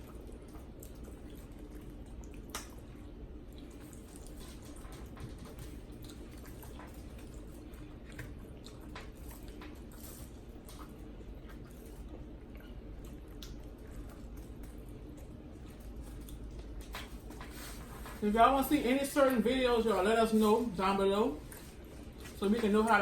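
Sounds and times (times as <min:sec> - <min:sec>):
wet eating squishes and smacks: 0:00.0 - 0:18.2, 0:21.4 - 0:23.0
steady low hum: 0:00.0 - 0:23.0.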